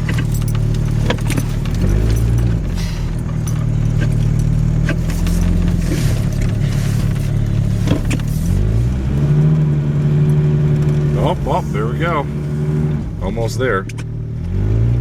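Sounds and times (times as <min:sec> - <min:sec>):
truck engine running under load: 0:00.0 - 0:14.4.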